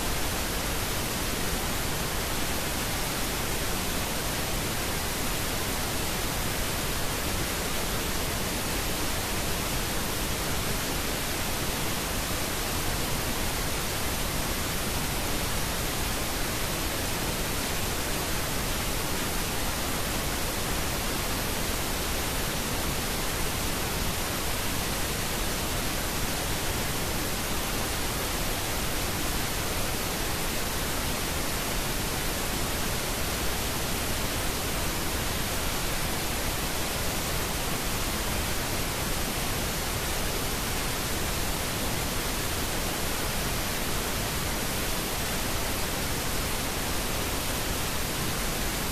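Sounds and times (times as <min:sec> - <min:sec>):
steady pink noise hiss: 0:00.0 - 0:48.9.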